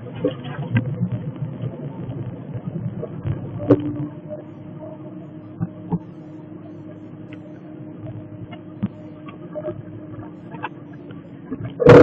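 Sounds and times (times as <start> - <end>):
car cabin driving hum: 0.0 - 12.0.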